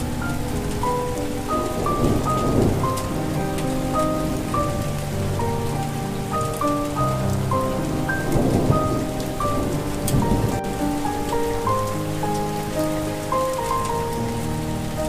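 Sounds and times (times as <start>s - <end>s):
low rumble of thunder: 0.0s - 15.0s
soft melody of held notes: 0.0s - 15.0s
steady rain falling: 0.0s - 15.0s.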